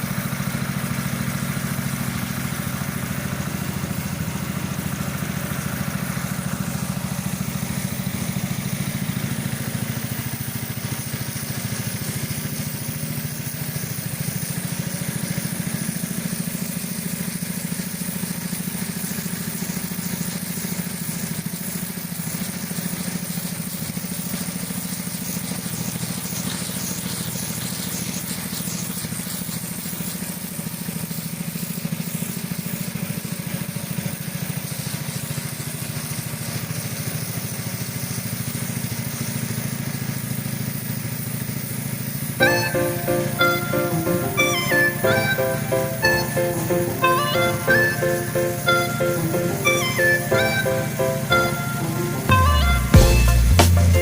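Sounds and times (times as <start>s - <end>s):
high-pressure water jet hiss: 0.0s - 54.0s
pump motor hum: 0.0s - 54.0s.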